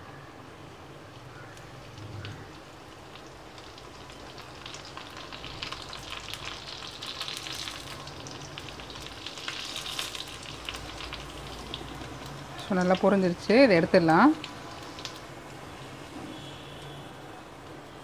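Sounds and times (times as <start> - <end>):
hot oil sizzling and crackling: 1.0 - 17.8.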